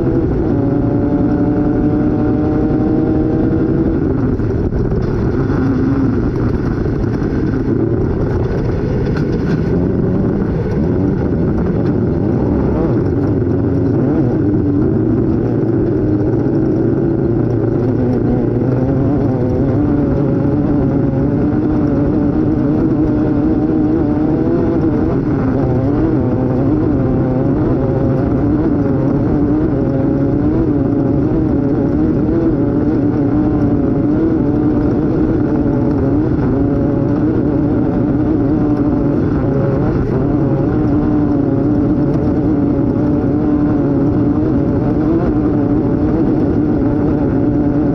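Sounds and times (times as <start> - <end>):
race vehicle engine running hard: 0.0 - 47.9.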